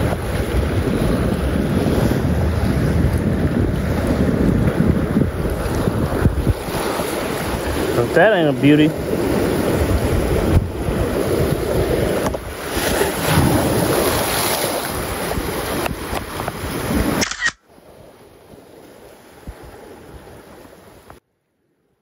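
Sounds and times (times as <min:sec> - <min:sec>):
surf washing against rocks: 0:00.0 - 0:21.2
wind buffeting microphone: 0:00.0 - 0:21.2.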